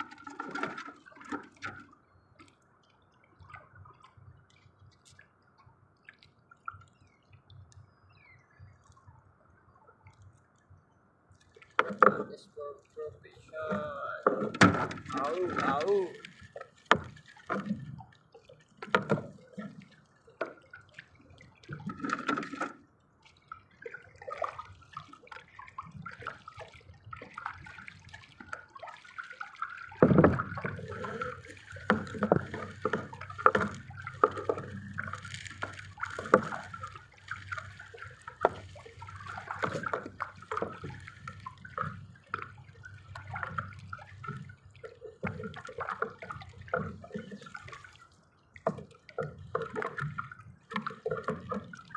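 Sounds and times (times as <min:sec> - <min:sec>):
water splashing and sloshing: 0:00.0 - 0:51.9.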